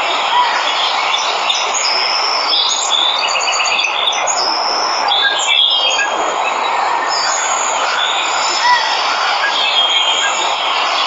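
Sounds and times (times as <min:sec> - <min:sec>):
waterfall rushing: 0:00.0 - 0:11.0
birds chirping and whistling: 0:00.4 - 0:11.0.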